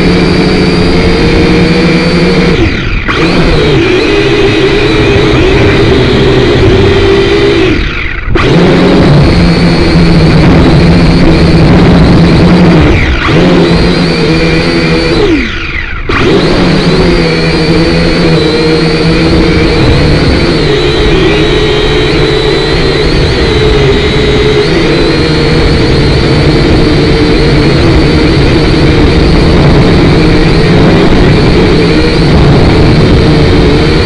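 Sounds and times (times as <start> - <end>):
toy quadcopter motors whining: 0.0 - 34.0.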